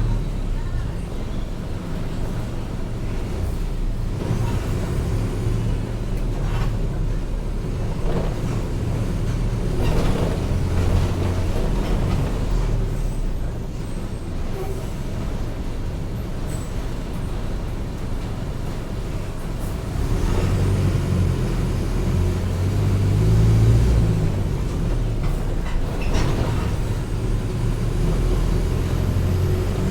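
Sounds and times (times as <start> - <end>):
bus diesel engine droning: 0.0 - 29.9.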